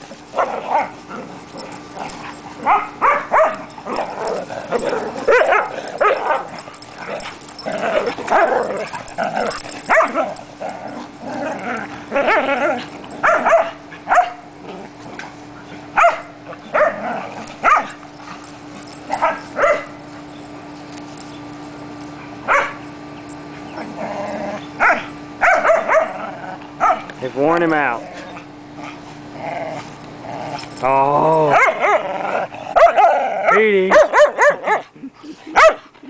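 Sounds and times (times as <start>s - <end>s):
dogs barking in play: 0.0s - 36.0s.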